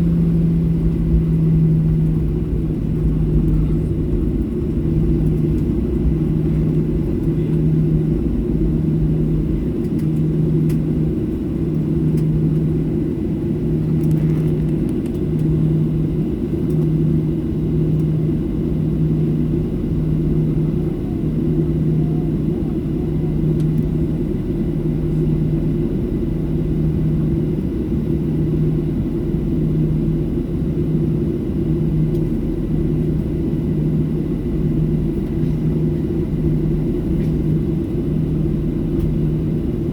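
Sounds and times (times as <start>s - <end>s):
muffled jet engine rumble: 0.0s - 39.9s
pulsing low hum: 0.0s - 39.9s.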